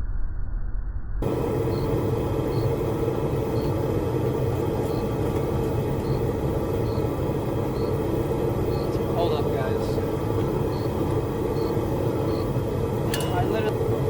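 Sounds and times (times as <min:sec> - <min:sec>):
forge roaring: 0:01.2 - 0:14.0.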